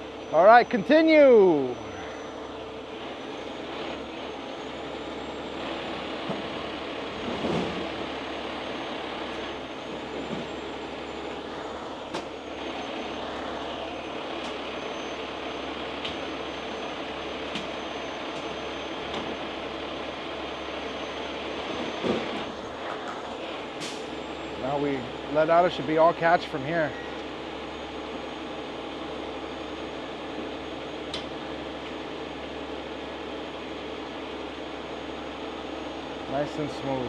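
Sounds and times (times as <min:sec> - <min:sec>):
diesel engines running: 0:00.0 - 0:37.0.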